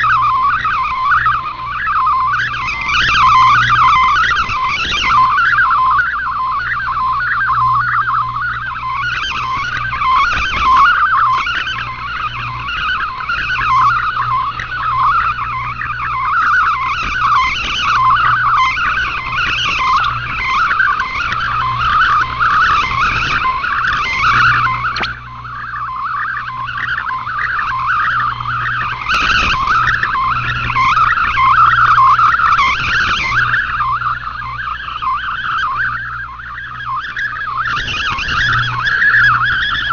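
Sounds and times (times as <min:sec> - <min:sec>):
steady low hum: 0:00.0 - 0:39.9
warbling radio data tones: 0:00.0 - 0:39.9.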